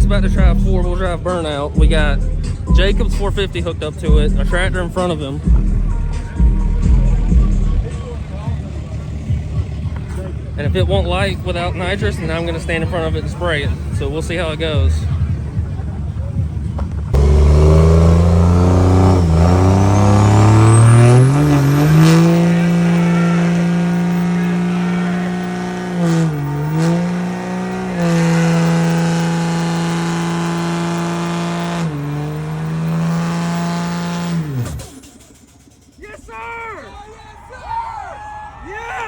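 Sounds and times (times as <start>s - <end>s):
truck engine revving hard: 0.0s - 16.1s, 16.9s - 36.0s.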